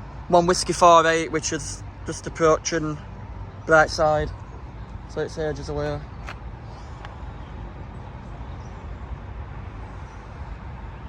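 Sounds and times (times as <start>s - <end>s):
low rumble of road traffic: 0.0s - 11.0s.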